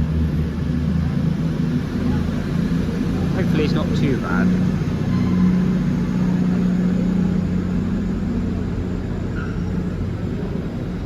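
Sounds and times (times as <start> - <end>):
train humming: 0.0 - 11.0.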